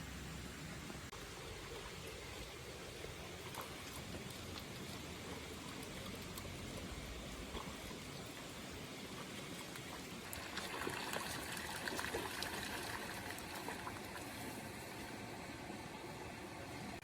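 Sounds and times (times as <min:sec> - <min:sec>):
water trickling: 0:00.2 - 0:17.0.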